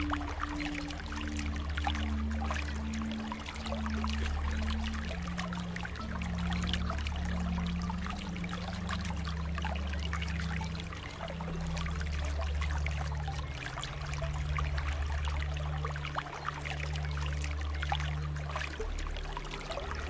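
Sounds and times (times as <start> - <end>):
flowing water splashing: 0.0 - 20.0.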